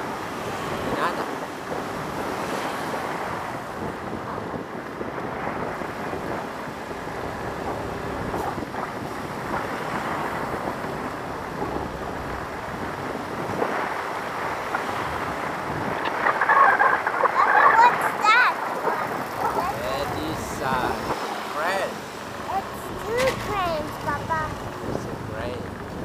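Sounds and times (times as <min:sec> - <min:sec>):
scooter road noise: 0:00.0 - 0:26.0
wind on microphone: 0:00.0 - 0:26.0.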